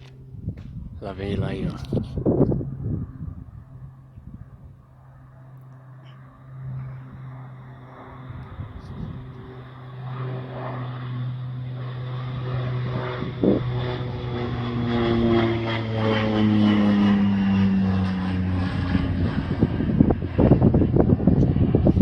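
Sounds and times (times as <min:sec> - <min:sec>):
wind buffeting microphone: 0:00.0 - 0:05.0, 0:06.6 - 0:22.0
propeller airplane engine drone: 0:00.0 - 0:22.0.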